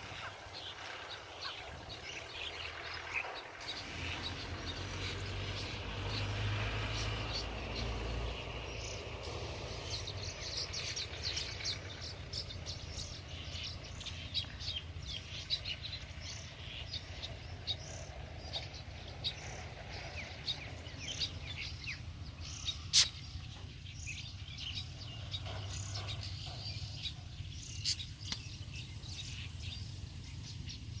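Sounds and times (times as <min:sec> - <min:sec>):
birds chirping and calling: 0:00.0 - 0:31.0.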